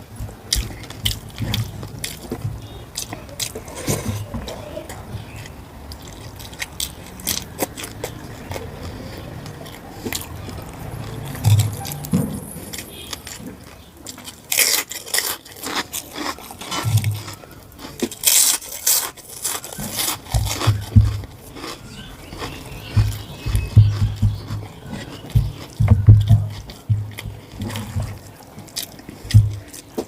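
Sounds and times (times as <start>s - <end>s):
wet chewing and smacking: 0.0s - 30.0s
crunchy bites: 0.2s - 30.0s.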